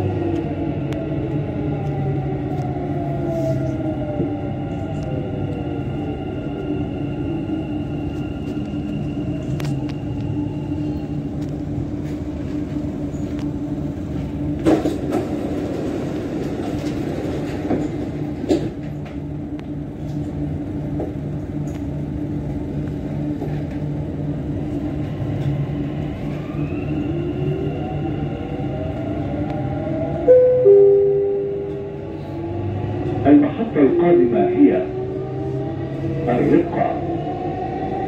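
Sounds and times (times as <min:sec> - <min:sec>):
rumble of wheels on rail: 0:00.0 - 0:38.0.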